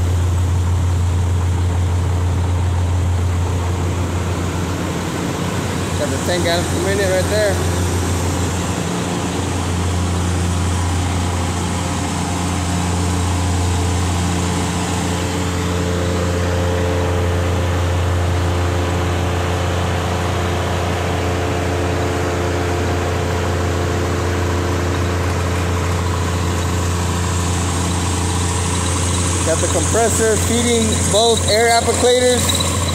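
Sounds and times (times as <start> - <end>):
pressure washer engine running: 0.0 - 32.9.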